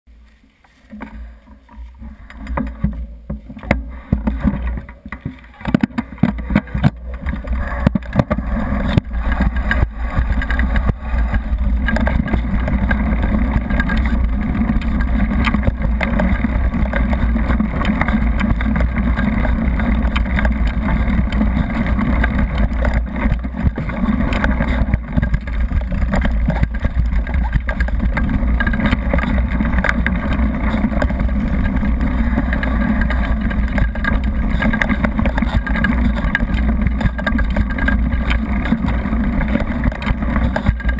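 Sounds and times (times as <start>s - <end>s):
bike tyre noise on gravel: 0.1s - 40.9s
bike rattling and knocking: 0.8s - 40.9s
wind rumble on microphone: 1.8s - 40.9s.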